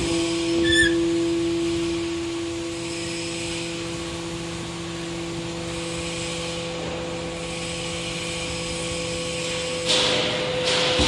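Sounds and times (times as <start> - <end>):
hydraulic power unit running: 0.0 - 11.0.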